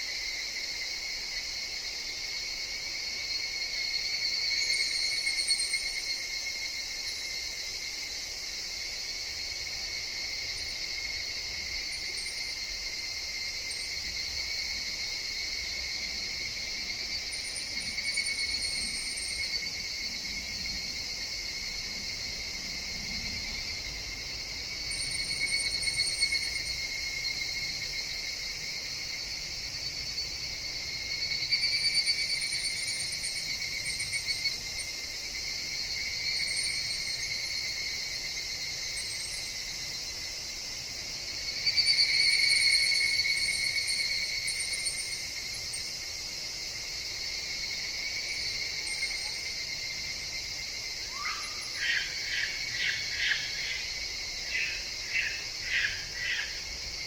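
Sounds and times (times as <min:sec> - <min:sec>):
cicadas ringing: 0:00.0 - 0:57.0
nearer cicada pulsing call: 0:00.0 - 0:57.0.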